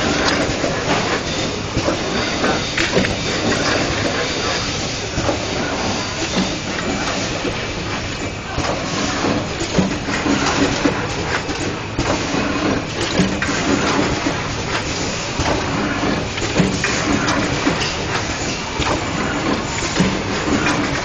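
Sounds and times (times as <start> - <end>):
machine clattering and humming: 0.0 - 21.0.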